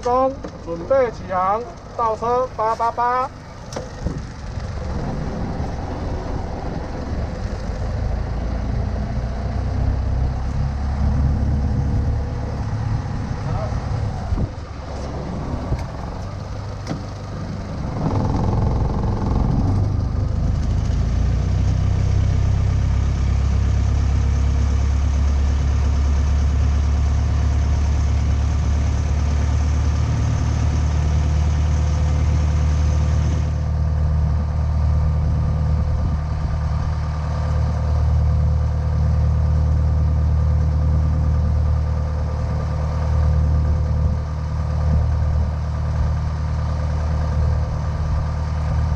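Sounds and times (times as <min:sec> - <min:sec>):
motorboat engine running: 0:00.0 - 0:48.9.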